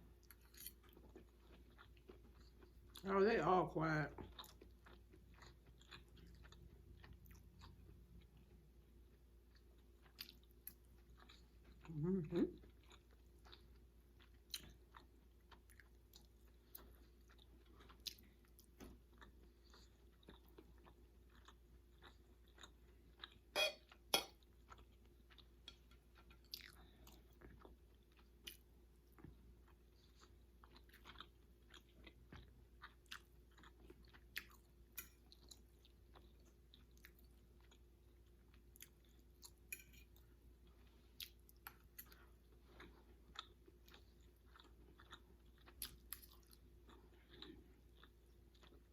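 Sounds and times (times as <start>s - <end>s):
chewing and mouth smacks: 4.2s - 8.6s, 9.4s - 11.9s, 12.6s - 48.9s.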